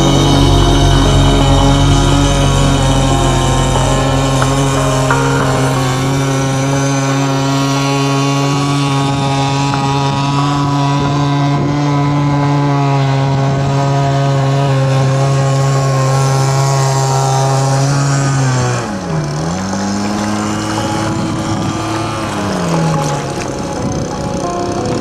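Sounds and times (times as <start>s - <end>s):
two-stroke engine revving: 0.0s - 25.0s.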